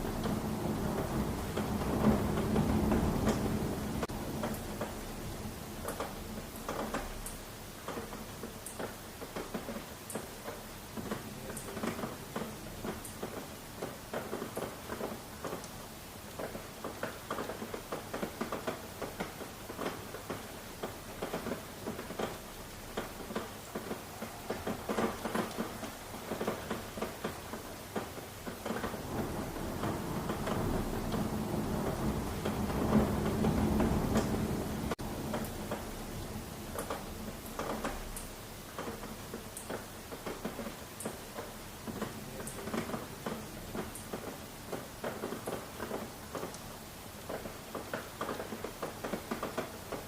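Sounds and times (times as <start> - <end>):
rain drops tapping on a surface: 0.0 - 50.0.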